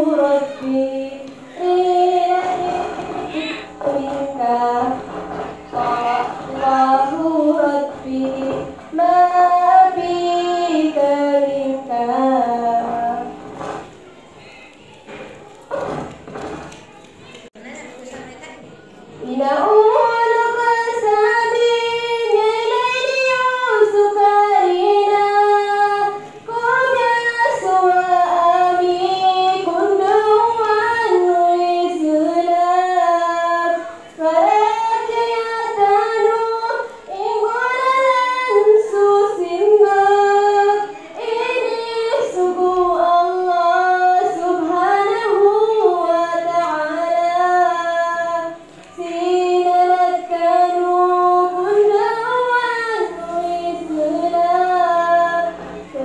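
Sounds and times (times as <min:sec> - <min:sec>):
girl singing through loudspeaker: 0:00.0 - 0:56.0.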